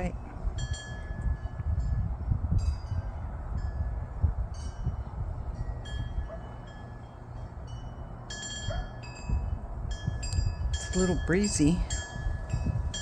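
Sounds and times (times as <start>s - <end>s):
wind chimes ringing: 0.0s - 13.0s
wind rumble on microphone: 0.0s - 13.0s.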